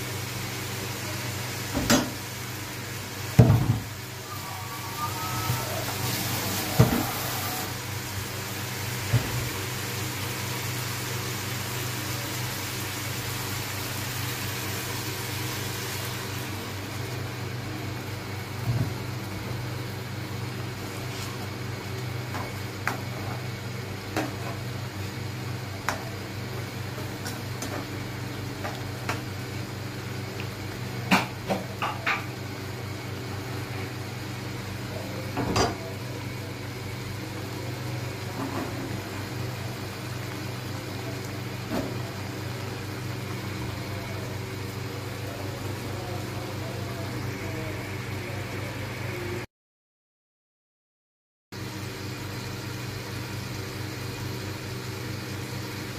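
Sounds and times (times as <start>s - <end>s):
induction cooktop humming: 0.0s - 49.5s, 51.6s - 55.9s.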